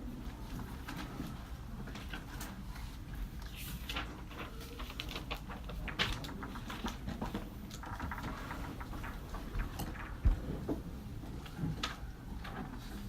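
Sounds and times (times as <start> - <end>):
paper rustling: 0.2 - 13.0.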